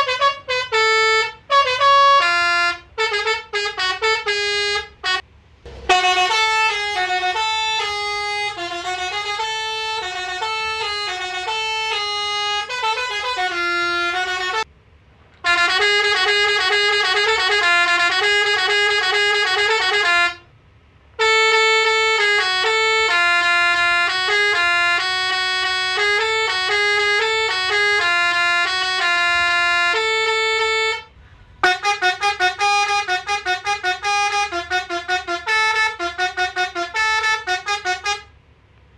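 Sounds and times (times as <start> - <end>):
musical air horn playing melodies: 0.0 - 14.7, 15.4 - 20.5, 21.2 - 38.5.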